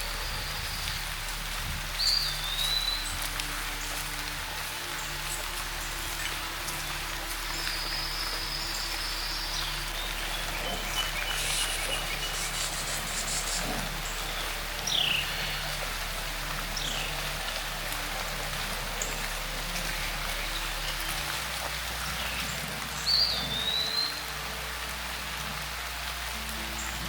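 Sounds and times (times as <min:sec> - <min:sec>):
bird calls: 0:00.0 - 0:24.4
light rain on leaves: 0:00.0 - 0:27.0.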